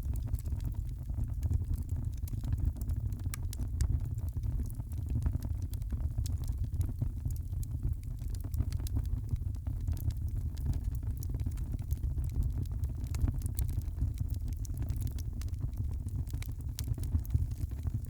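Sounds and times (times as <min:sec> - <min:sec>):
fire crackling in fireplace: 0:00.0 - 0:18.0.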